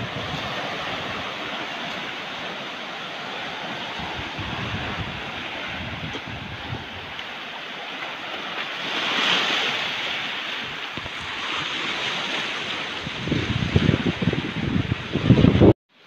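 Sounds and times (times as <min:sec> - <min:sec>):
waves on pebbly shore: 0:00.0 - 0:15.6
wind buffeting microphone: 0:00.0 - 0:15.8.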